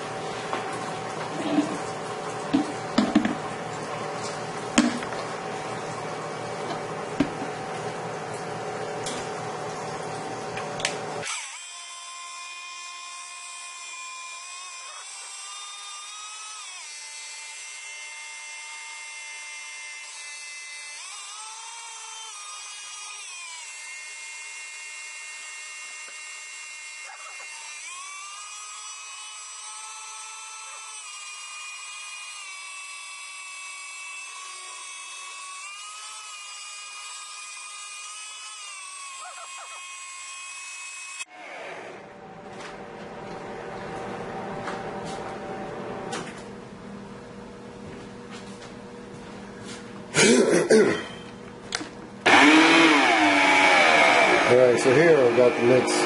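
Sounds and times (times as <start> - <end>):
stick blender motor whine: 0.0 - 46.5, 51.0 - 56.0.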